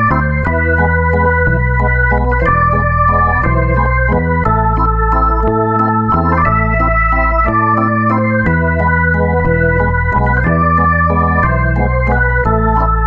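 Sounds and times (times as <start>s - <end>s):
bass line: 0.0s - 13.0s
held organ chords: 0.0s - 13.0s.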